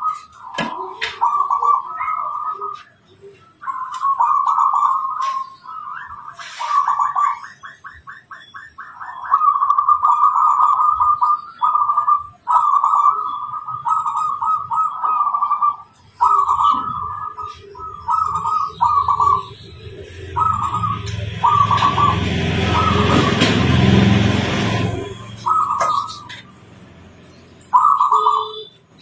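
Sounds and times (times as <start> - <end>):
short evenly spaced bird notes: 0.0 - 23.1, 23.7 - 29.0
dove cooing: 0.0 - 26.4.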